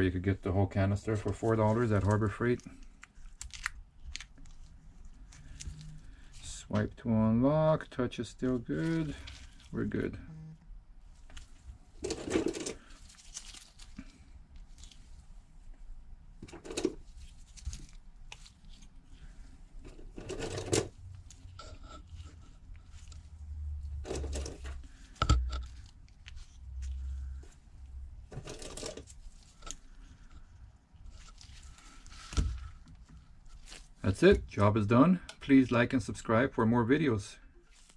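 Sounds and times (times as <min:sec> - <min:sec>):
rustling and scraping of hands and parts: 0:00.0 - 0:07.0, 0:08.3 - 0:10.2, 0:11.0 - 0:37.9.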